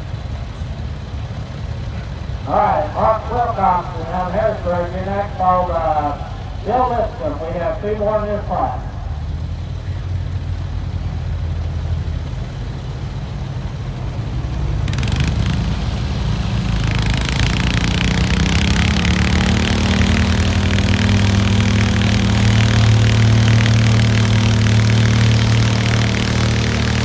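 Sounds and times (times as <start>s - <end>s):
tractor engine under load: 0.0s - 27.0s.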